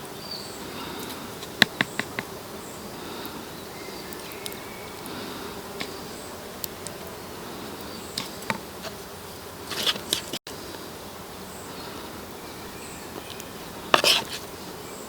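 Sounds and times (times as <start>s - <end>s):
insect buzzing: 0.0s - 15.0s.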